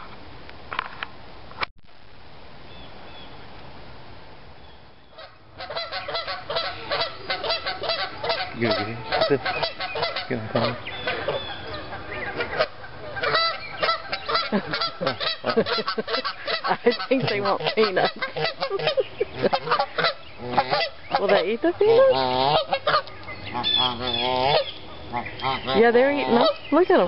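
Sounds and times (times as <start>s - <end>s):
geese honking: 5.1s - 27.0s.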